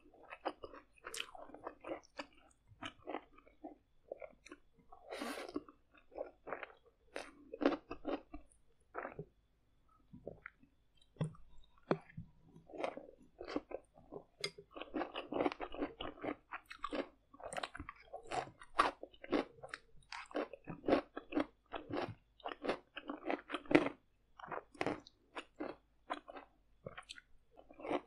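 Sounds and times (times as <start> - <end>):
chewing noodles: 0.2 - 9.3, 10.3 - 28.0.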